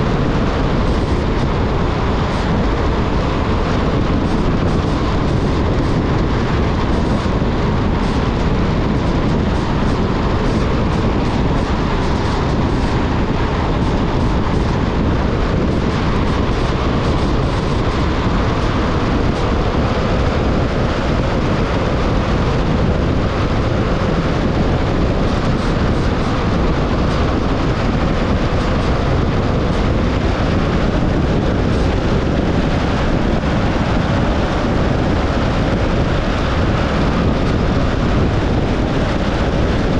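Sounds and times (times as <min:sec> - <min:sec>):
wind rushing past car: 0:00.0 - 0:39.9.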